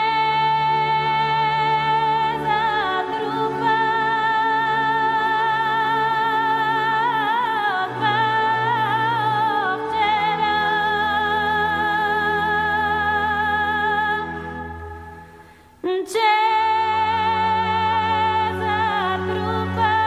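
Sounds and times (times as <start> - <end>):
women singing in harmony: 0.0 - 20.0.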